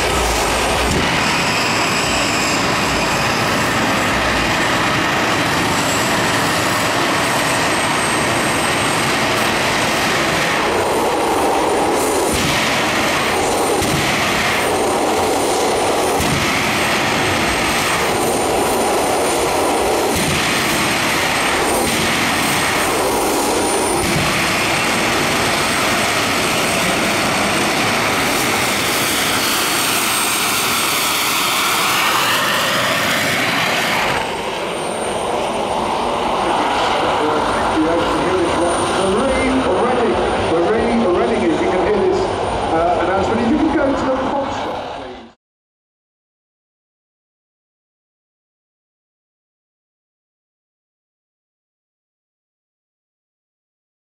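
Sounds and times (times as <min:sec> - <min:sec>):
jet turbine whining and rushing: 0:00.0 - 0:45.4.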